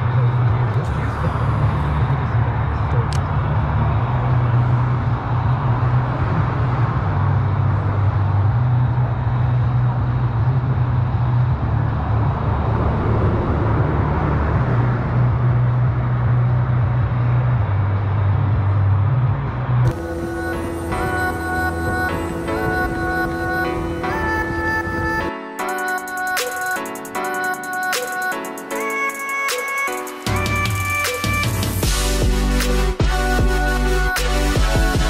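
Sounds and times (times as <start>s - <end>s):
traffic rumble and tyre roar: 0.0s - 35.0s.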